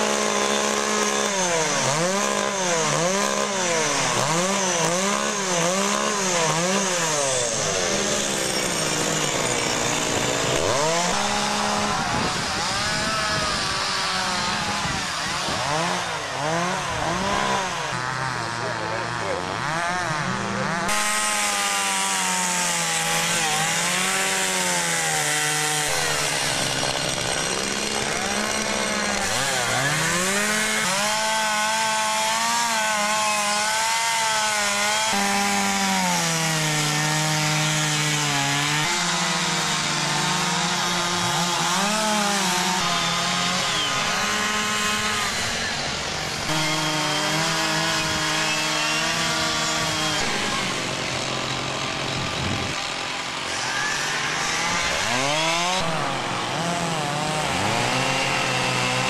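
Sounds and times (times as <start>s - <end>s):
chainsaws cutting wood: 0.0s - 59.0s.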